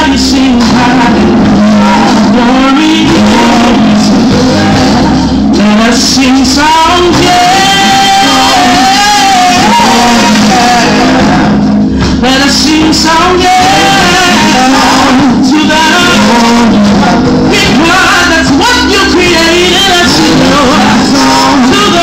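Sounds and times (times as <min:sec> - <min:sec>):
backing singers: 0:00.0 - 0:22.0
church band playing: 0:00.0 - 0:22.0
woman singing into microphone: 0:00.0 - 0:22.0.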